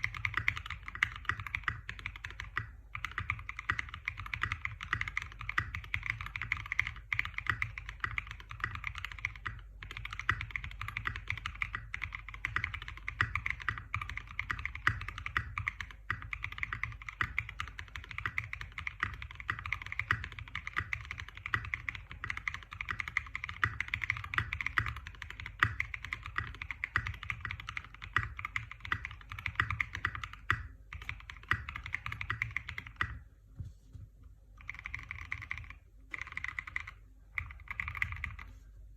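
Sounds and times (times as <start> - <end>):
mechanical keyboard typing: 0.0 - 33.3, 34.6 - 38.6.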